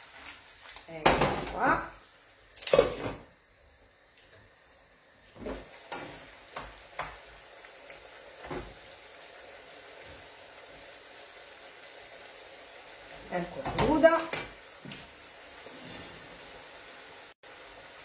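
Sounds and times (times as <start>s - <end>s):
pasta simmering with faint sizzle: 0.0s - 18.0s.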